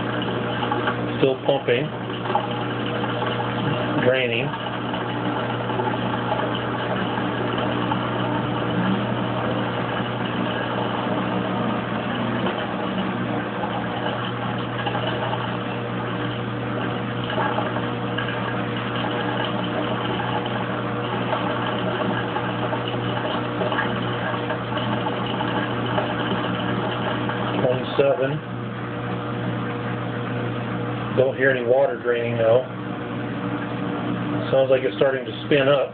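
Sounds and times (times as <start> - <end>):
washer drain pump running: 0.0 - 35.9.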